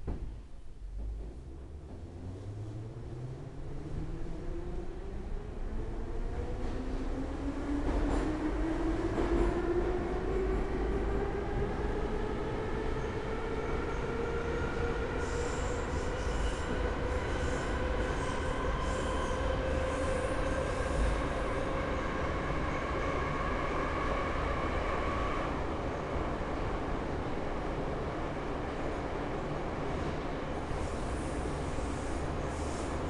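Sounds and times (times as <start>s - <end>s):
wheels rumbling on rail: 0.8s - 33.0s.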